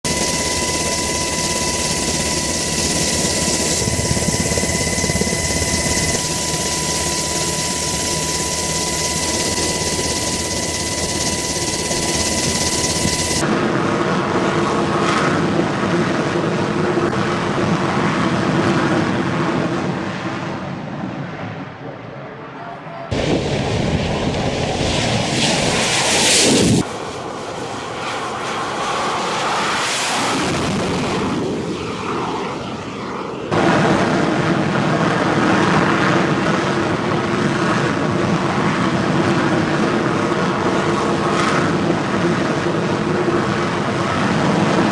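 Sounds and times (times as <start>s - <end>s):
jet engine rush and whine: 0.0s - 22.5s, 23.1s - 44.9s.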